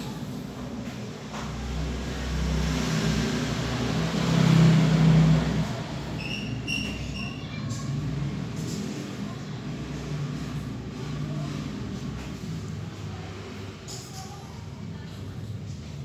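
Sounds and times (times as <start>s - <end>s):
vehicle engine rumble passing: 0.0s - 15.8s.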